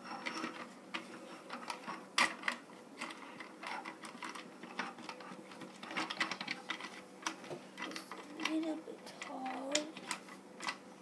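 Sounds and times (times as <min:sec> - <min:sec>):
plastic toy parts clicking: 0:00.4 - 0:10.8.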